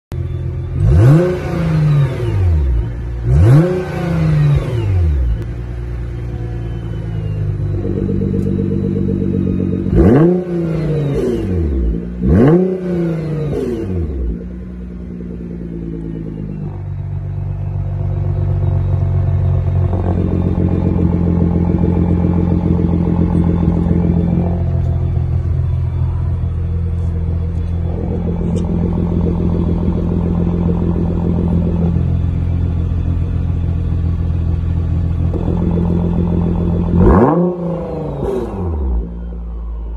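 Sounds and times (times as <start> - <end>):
car engine idling: 0.1 - 39.9
car engine revving: 0.2 - 39.9.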